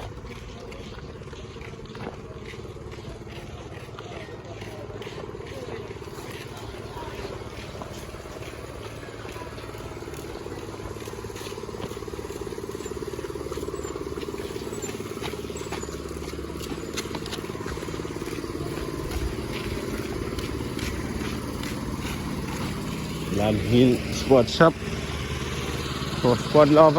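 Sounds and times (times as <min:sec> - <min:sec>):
road traffic: 0:00.0 - 0:26.9
vehicle engine running: 0:00.0 - 0:26.9.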